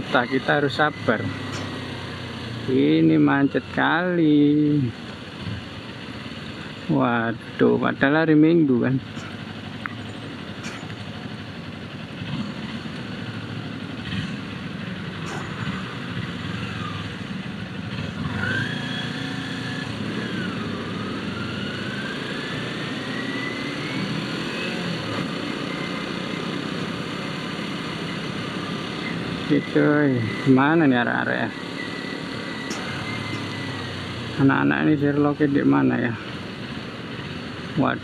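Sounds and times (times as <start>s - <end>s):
city traffic: 0.0s - 38.0s
motorcycle engine running: 0.0s - 38.0s.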